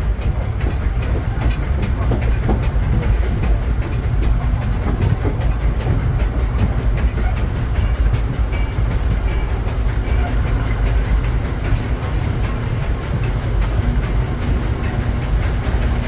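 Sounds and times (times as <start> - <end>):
train coach rolling on track: 0.0 - 16.0
wheels clicking over rails: 0.0 - 16.0.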